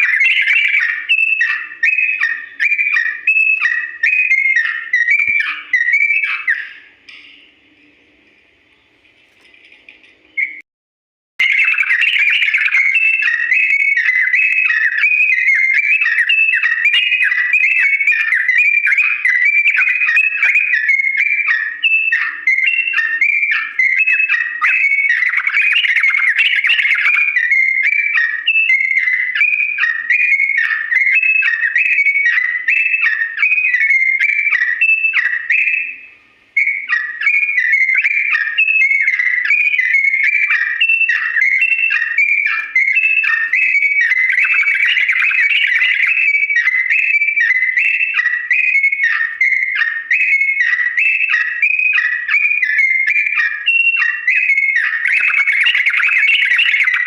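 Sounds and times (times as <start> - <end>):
bird singing whistled notes: 0.0 - 10.6, 11.4 - 57.0.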